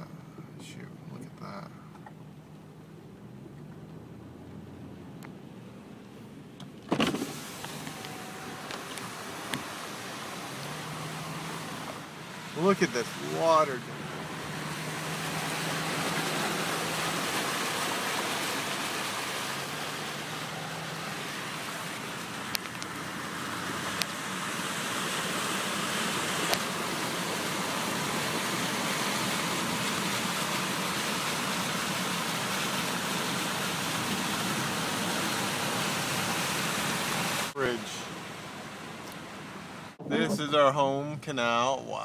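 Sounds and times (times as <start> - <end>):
faint engine hum: 0.0 - 36.6
rush of water and tyre noise: 1.4 - 41.6.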